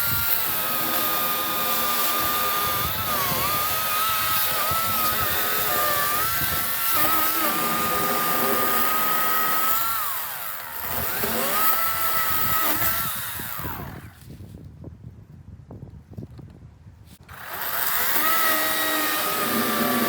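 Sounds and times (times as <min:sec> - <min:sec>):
electric chainsaw motor whining: 0:00.0 - 0:14.3, 0:17.2 - 0:20.0.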